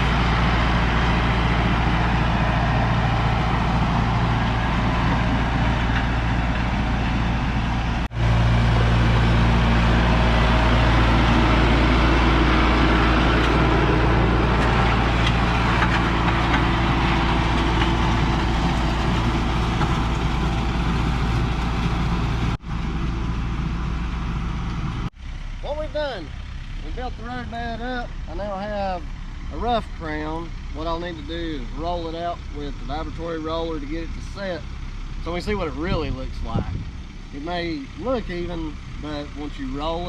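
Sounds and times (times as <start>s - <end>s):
heavy vehicle engine running: 0.0s - 40.0s.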